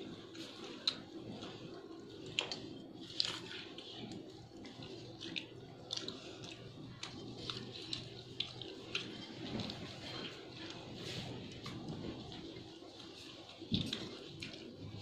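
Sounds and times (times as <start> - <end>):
chewing: 0.0 - 15.0
steady low hum: 0.0 - 15.0.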